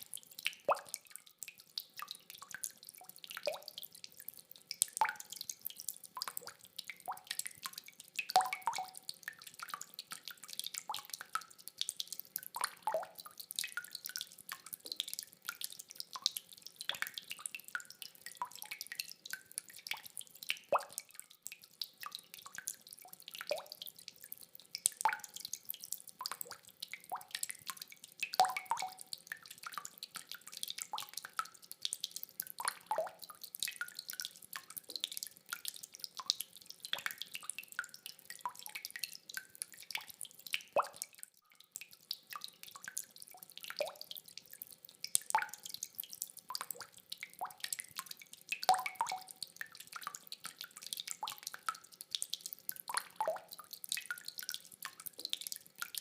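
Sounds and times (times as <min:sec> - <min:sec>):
water drops dripping: 0:00.0 - 0:56.0.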